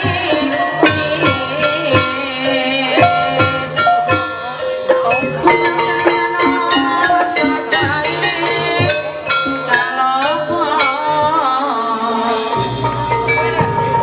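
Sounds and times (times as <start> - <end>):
drum: 0.0 - 14.0
person singing ornamented melody: 0.0 - 14.0.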